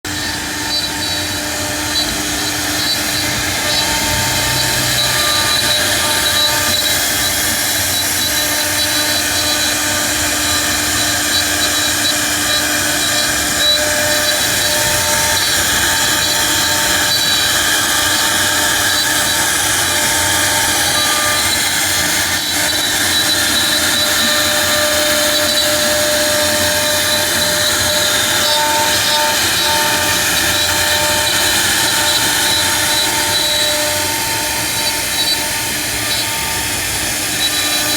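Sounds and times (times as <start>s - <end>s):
router spindle machining: 0.0s - 37.9s.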